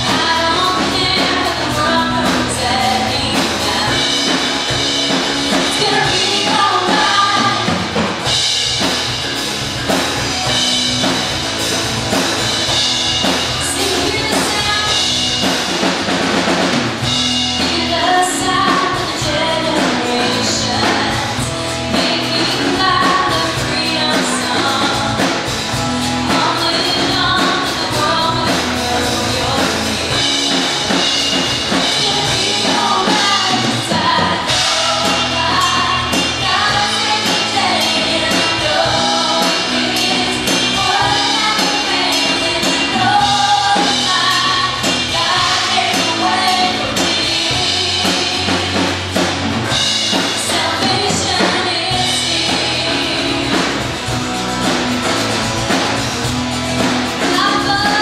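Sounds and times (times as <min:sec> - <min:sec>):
vocalists singing: 0:00.0 - 0:54.7, 0:56.2 - 0:58.0
bass guitar: 0:00.0 - 0:58.0
drum kit: 0:00.0 - 0:58.0
electric and acoustic guitars: 0:00.0 - 0:58.0
keyboard: 0:00.0 - 0:58.0.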